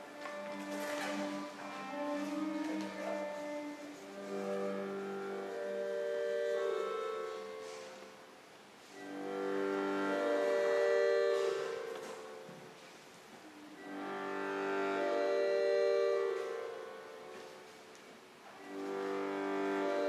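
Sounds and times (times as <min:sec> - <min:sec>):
slow instrumental music: 0:00.0 - 0:20.0.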